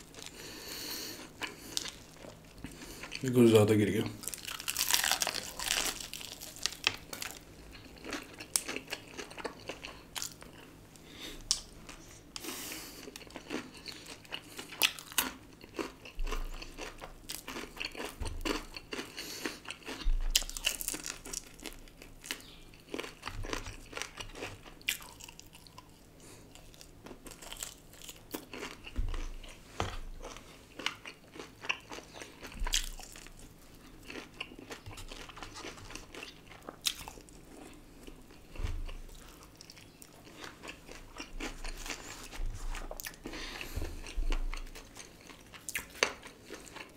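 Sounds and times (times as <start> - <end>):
person chewing: 0.0 - 3.2, 4.2 - 46.9
crunching fried chicken: 0.0 - 10.7, 11.4 - 29.6, 30.2 - 46.9.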